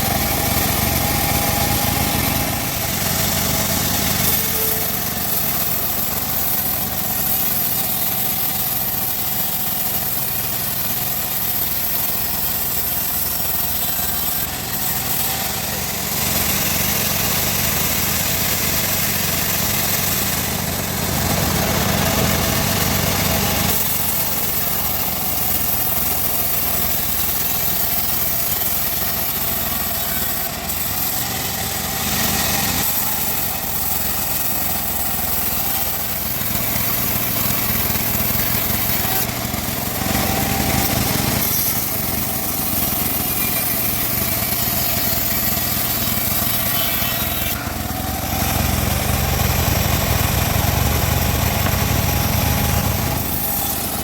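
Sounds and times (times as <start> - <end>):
bandsaw cutting timber: 0.0 - 54.0.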